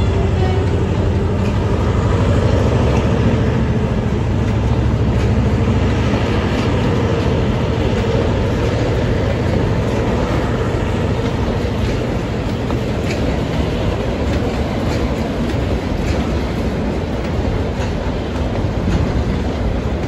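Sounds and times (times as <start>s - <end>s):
freight wagons rumbling on rails: 0.0s - 20.0s.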